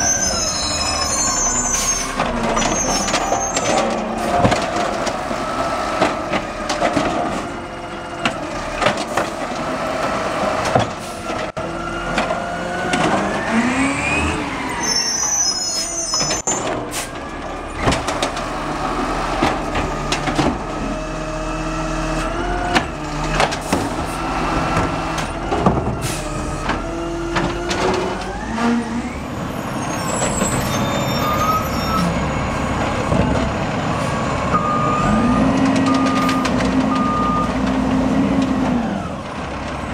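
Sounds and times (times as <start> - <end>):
garbage truck engine revving: 0.0 - 15.6, 16.8 - 39.9.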